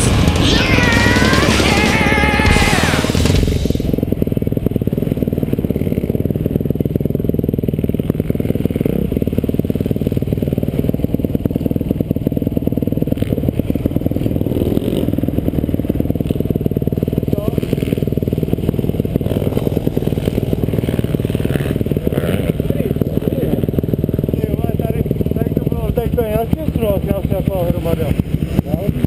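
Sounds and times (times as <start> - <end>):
motocross bike engine: 0.0 - 29.0
bike rattle: 2.2 - 29.0.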